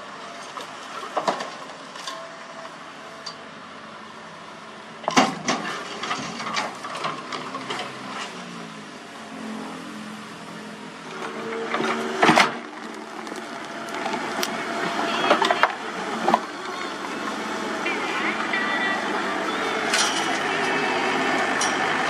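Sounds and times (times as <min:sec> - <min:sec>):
excavator diesel engine: 0:00.0 - 0:22.0.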